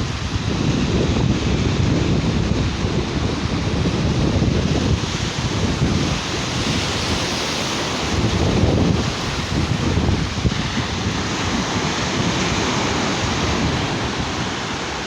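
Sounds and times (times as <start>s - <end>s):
sea surf washing onto beach: 0.0s - 15.0s
wind buffeting microphone: 0.0s - 15.0s.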